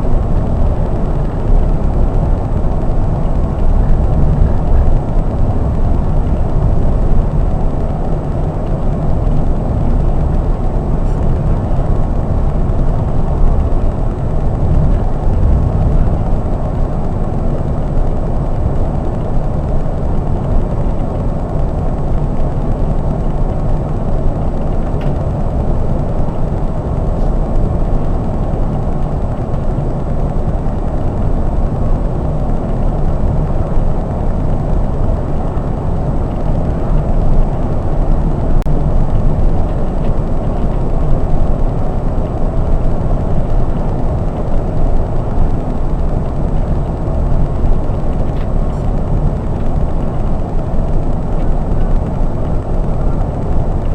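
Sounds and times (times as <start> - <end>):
coach engine and road drone: 0.0 - 53.9.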